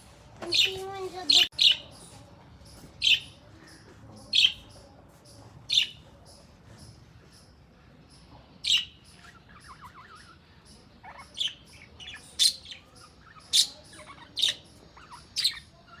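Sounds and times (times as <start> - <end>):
bird chirping: 0.4 - 6.5, 8.1 - 16.0.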